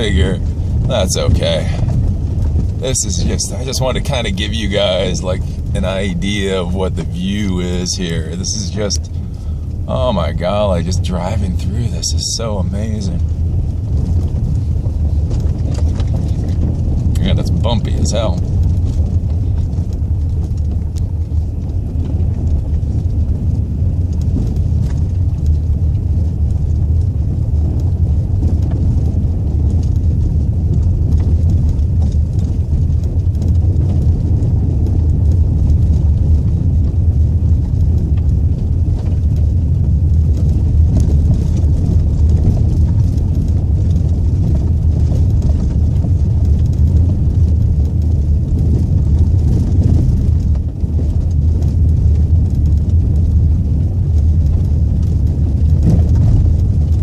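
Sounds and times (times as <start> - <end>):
engine and tyres on gravel: 0.0 - 57.0.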